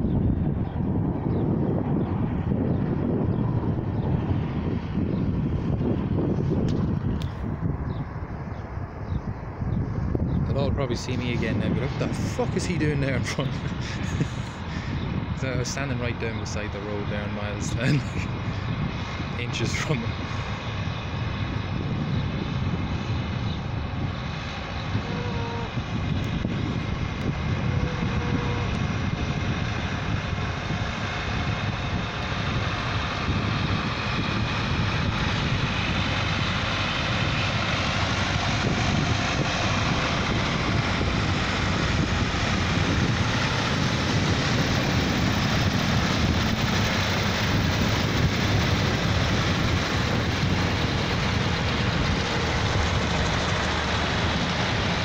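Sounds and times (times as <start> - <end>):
tractor engines droning: 0.0 - 55.0.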